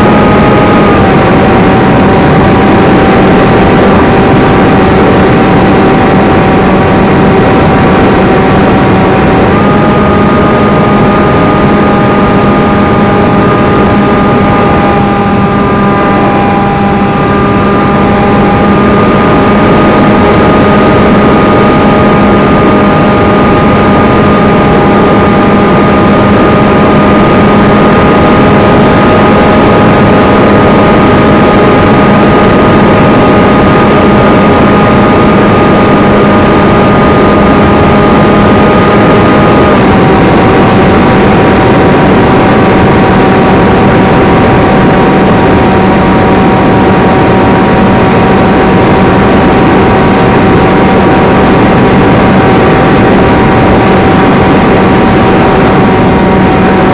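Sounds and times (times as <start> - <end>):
motor and propeller hum: 0.0 - 56.9
wind noise on microphone: 0.0 - 56.9.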